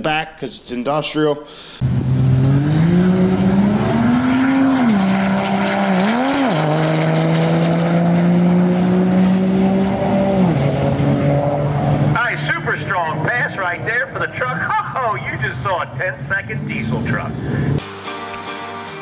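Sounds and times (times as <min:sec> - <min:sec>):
diesel engine at full throttle: 0:01.8 - 0:18.0.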